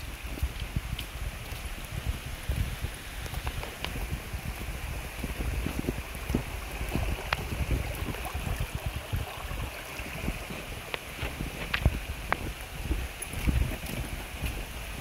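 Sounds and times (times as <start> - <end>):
creek running over stones: 0.0 - 15.0.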